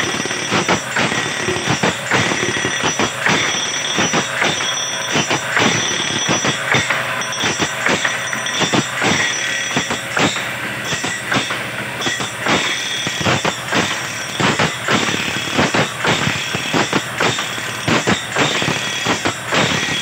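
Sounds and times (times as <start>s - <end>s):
feed mechanism clacking: 0.0s - 20.0s
grinding wheel hissing on blade: 0.0s - 20.0s
steady high whine: 0.0s - 20.0s.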